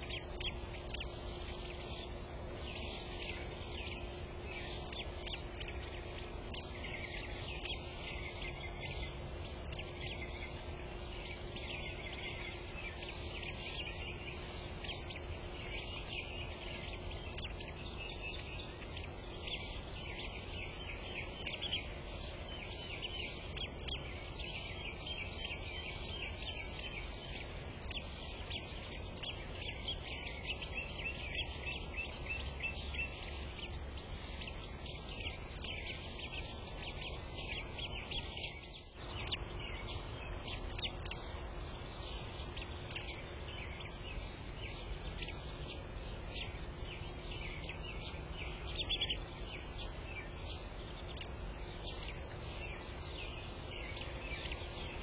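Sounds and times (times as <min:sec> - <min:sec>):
birds chirping: 0:00.0 - 0:55.0
faint background rumble: 0:00.0 - 0:55.0
steady low hum: 0:00.0 - 0:55.0.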